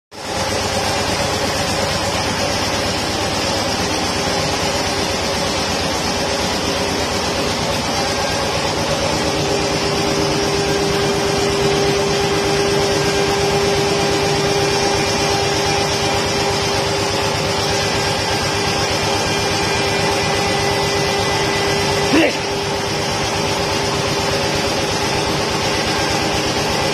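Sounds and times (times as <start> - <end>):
router spindle whine: 0.3 - 26.9.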